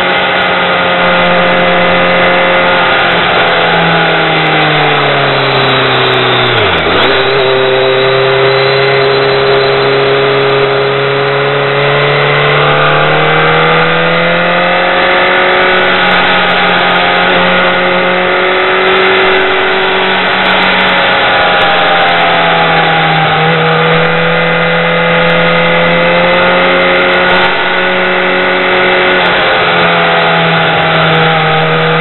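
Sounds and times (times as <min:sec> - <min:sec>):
motorcycle engine under way: 0:00.0 - 0:32.0.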